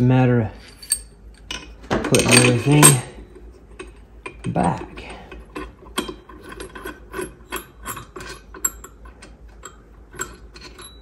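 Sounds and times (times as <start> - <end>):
metallic clicking and rubbing: 0.6 - 11.0.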